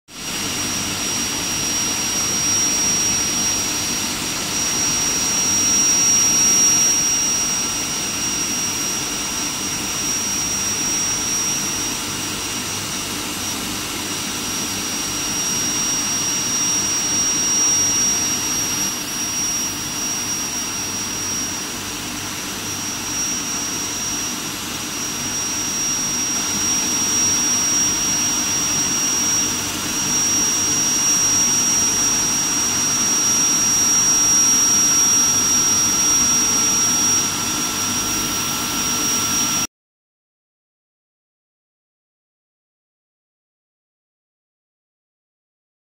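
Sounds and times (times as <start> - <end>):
high-pitched machine whine: 0.1 - 39.7.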